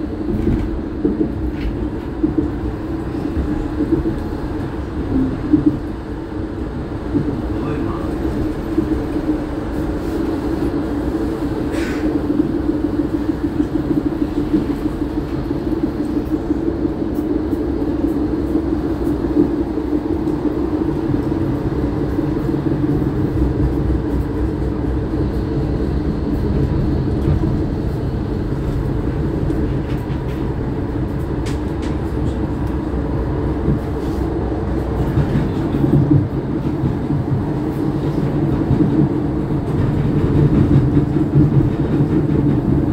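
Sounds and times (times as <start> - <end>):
tram humming: 0.0 - 42.9.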